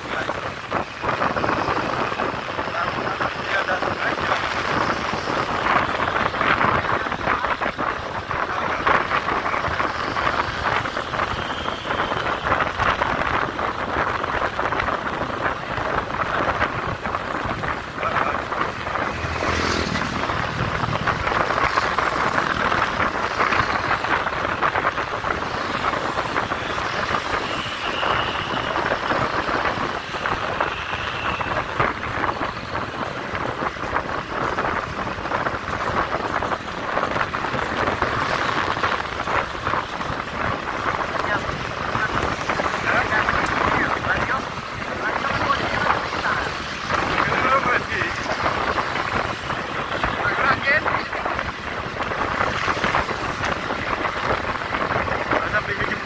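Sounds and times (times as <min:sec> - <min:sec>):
motorbikes and scooters running: 0:00.0 - 0:56.0
wind rushing over microphone: 0:00.0 - 0:56.0.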